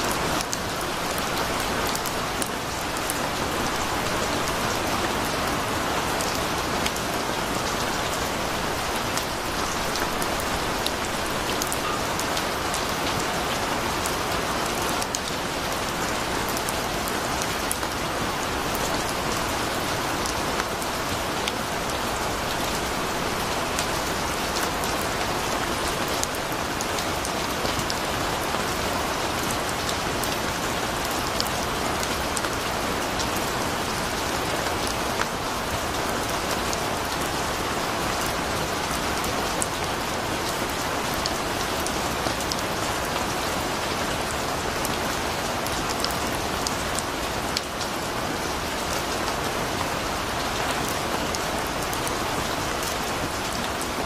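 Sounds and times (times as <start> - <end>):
heavy rain on trees: 0.0 - 54.0.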